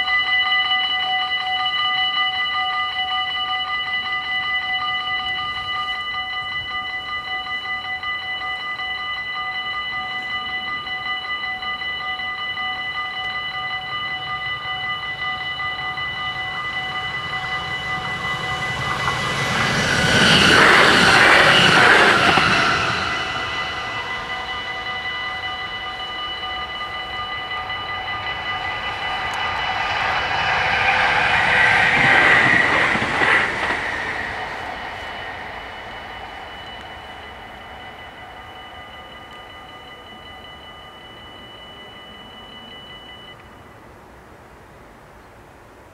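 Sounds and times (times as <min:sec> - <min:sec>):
level crossing bells ringing: 0:00.0 - 0:43.8
electric train passing: 0:00.0 - 0:45.9.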